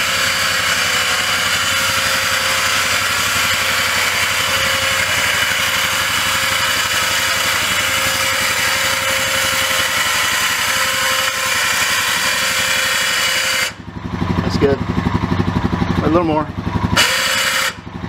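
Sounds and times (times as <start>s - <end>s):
electric winch motor whine: 0.0s - 13.9s, 16.9s - 18.0s.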